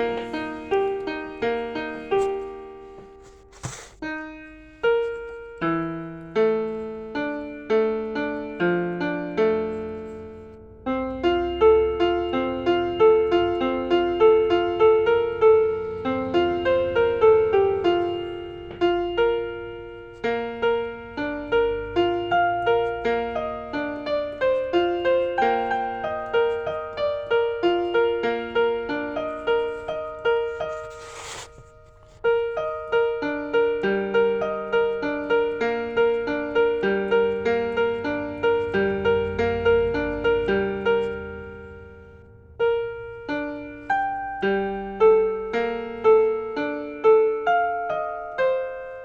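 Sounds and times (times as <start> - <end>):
piano music: 0.0 - 49.0.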